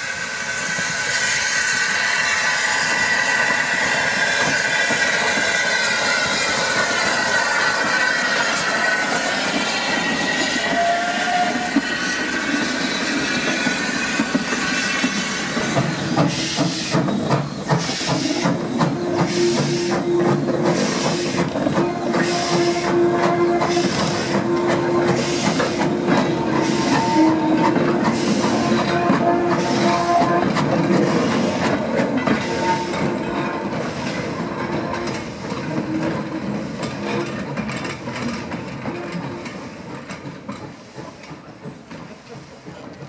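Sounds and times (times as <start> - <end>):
train wheels rumbling over rails: 0.0 - 43.0
steam engine chuffing: 0.1 - 43.0
high wheel squealing: 1.8 - 37.4.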